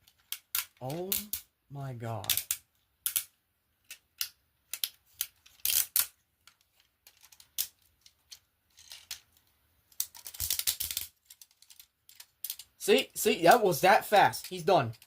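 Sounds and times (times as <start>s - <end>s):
plastic toy parts clicking: 0.0s - 1.5s, 2.2s - 12.8s, 14.2s - 15.0s.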